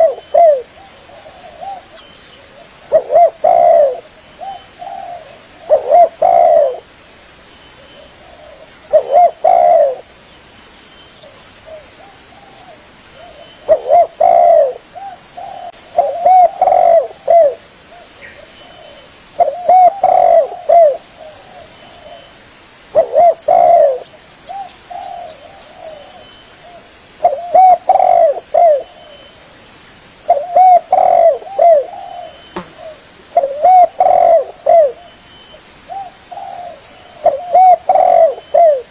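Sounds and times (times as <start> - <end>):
dove cooing: 0.0 - 6.9, 7.8 - 10.1, 11.2 - 22.3, 22.9 - 29.4, 30.3 - 35.2, 35.9 - 38.9.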